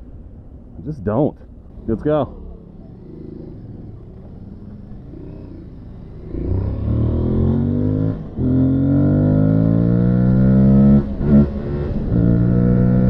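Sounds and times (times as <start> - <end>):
motorcycle engine accelerating: 1.8 - 13.0.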